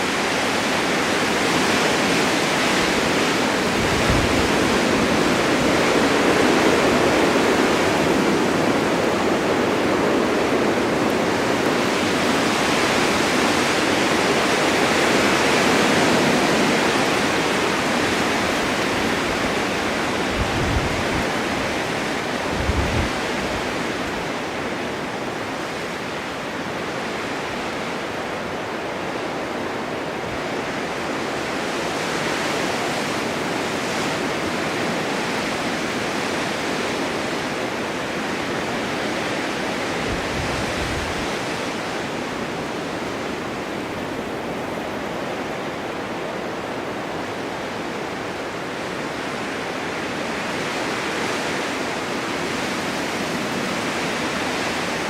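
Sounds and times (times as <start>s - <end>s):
wind-blown snow hissing: 0.0s - 55.0s.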